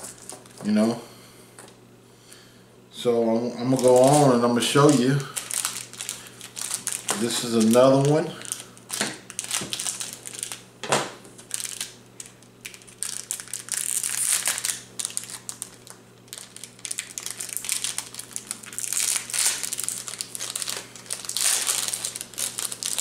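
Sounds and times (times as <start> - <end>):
plastic packaging crinkling: 0.0 - 0.8, 3.6 - 23.0.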